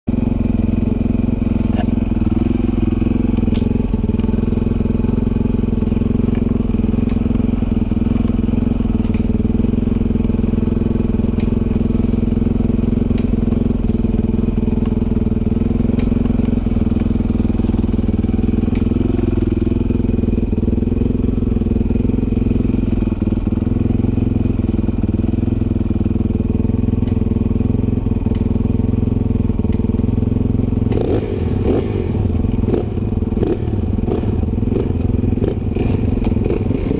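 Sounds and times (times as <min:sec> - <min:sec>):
dirt bike engine running: 0:00.1 - 0:36.9.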